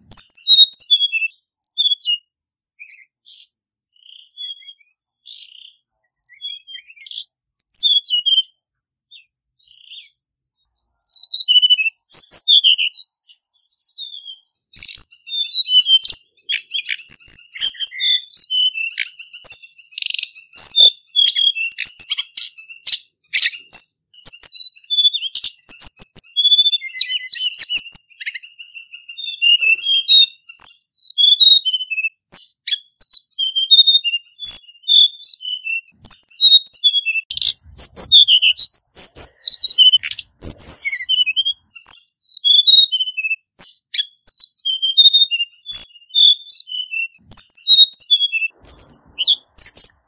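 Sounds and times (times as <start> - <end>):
bird twittering song: 0.0 - 50.0.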